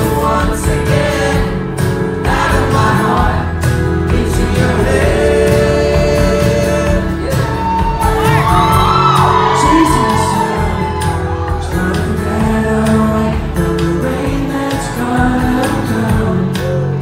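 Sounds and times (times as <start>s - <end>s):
man singing: 0.0s - 17.0s
pop band playing: 0.0s - 17.0s.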